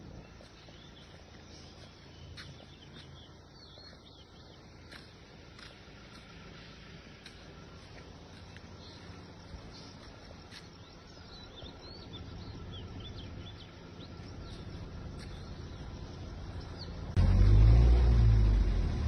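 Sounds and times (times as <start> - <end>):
small bird chirping: 0.0 - 17.2.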